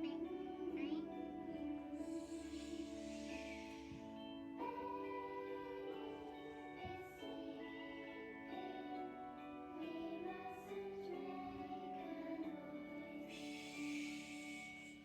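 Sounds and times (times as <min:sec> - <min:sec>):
children singing: 0:00.0 - 0:15.0
musical backing: 0:00.0 - 0:15.0.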